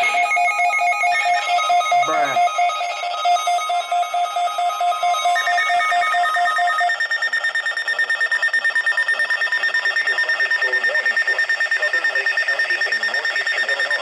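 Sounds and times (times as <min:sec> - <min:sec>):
fast-pulsing high tone: 0:00.0 - 0:14.0
low pulsed beep: 0:00.0 - 0:14.0.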